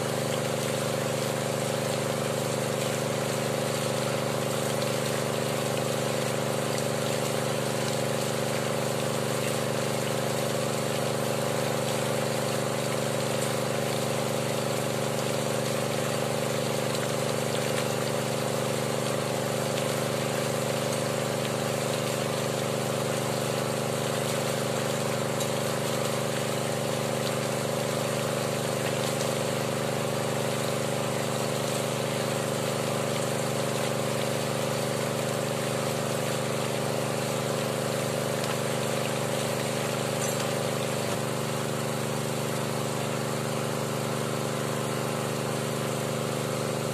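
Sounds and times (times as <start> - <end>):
engine-driven water pump running: 0.0 - 46.9.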